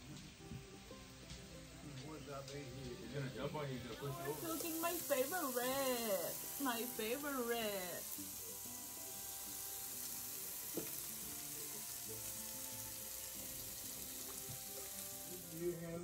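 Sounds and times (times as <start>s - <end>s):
pork sizzling on a grill: 0.0s - 16.0s.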